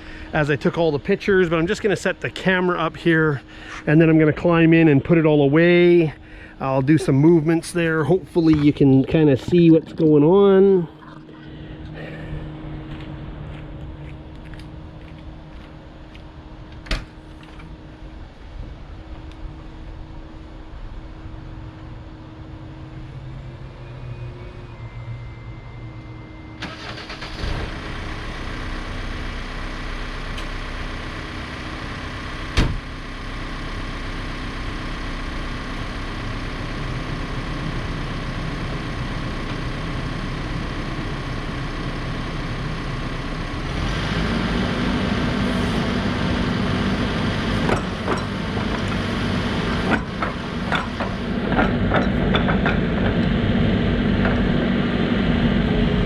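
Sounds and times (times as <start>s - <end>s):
backhoe diesel engine running: 0.0s - 18.4s, 21.5s - 56.0s.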